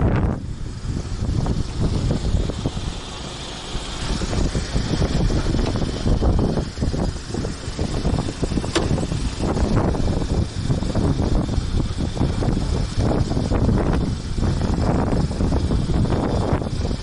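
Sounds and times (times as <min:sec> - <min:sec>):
motorcycle engine running: 0:00.0 - 0:17.0
wind buffeting on microphone: 0:00.0 - 0:17.0.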